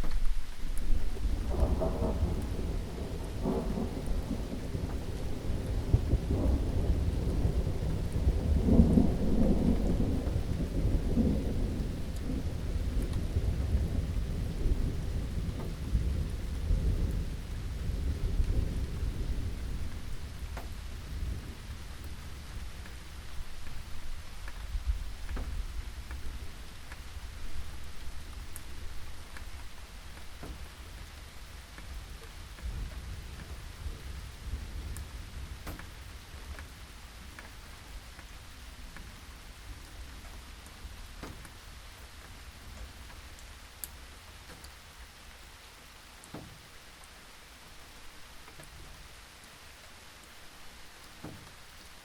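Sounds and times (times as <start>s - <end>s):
thunder rumbling: 0.0s - 43.5s
steady rain: 0.0s - 52.0s.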